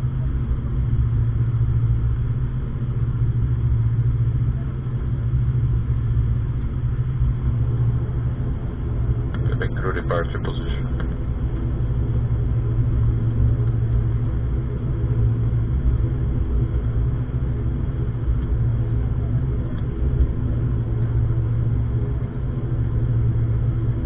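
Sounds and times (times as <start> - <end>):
propeller engines droning: 0.0 - 24.0.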